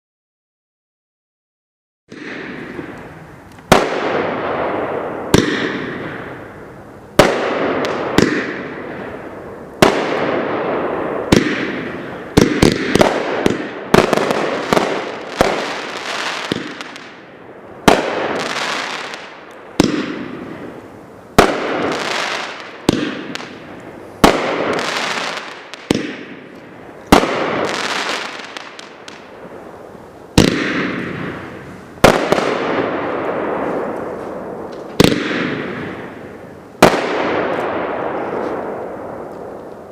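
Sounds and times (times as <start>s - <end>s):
firework bangs: 2.1s - 39.9s
firework crackle: 2.1s - 39.9s.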